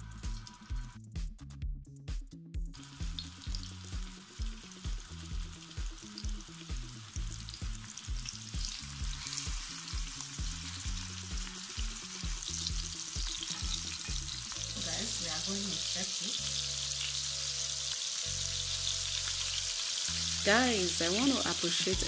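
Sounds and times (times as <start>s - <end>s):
shrimp sizzling in hot oil: 2.8s - 22.0s.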